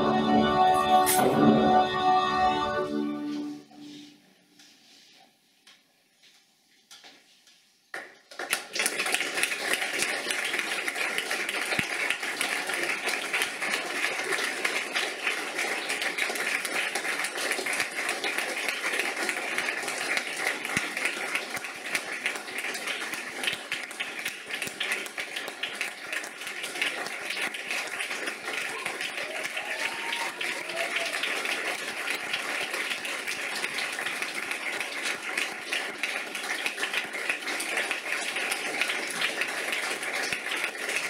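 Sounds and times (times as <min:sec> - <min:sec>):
audience applauding: 0:07.9 - 0:41.0.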